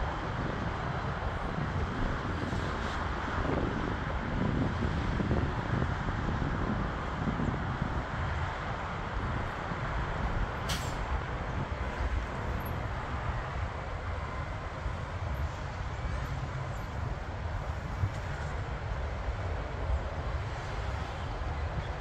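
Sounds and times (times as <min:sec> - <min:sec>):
distant jet engine noise: 0:00.0 - 0:22.0
road traffic rumble: 0:00.0 - 0:22.0.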